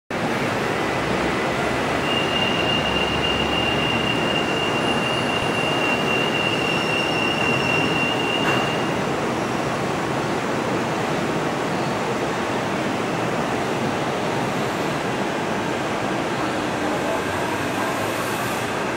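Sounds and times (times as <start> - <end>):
monorail train noise: 0.1 - 18.9.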